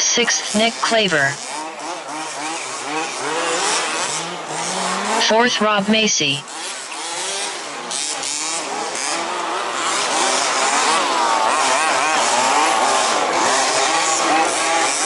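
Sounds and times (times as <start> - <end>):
model buggy engines revving: 0.0 - 15.0.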